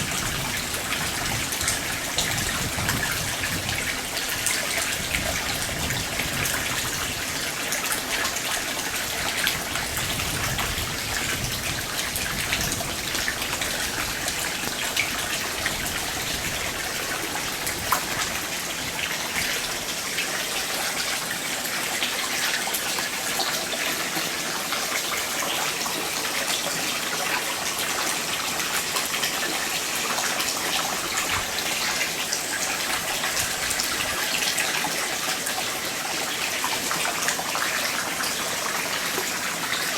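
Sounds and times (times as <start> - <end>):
water drips: 0.0 - 39.9
water running and splashing: 0.0 - 39.9.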